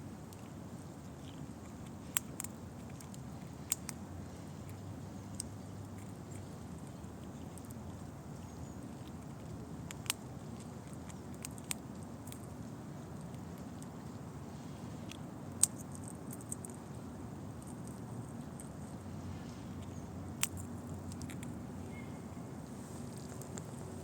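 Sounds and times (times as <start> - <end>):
squirrel cracking nut shells: 0.0 - 14.4, 15.0 - 19.1, 19.7 - 24.0
low background rumble: 0.0 - 24.0.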